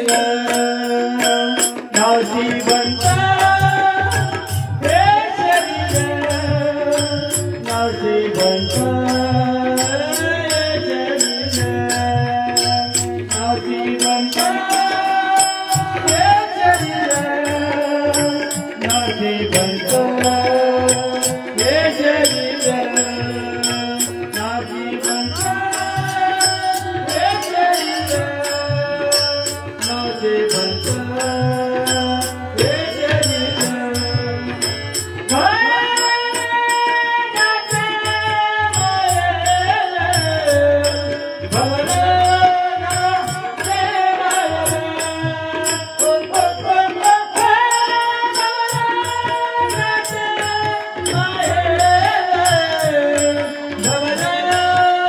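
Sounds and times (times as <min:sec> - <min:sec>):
tabla drum rhythm: 0:00.0 - 0:55.0.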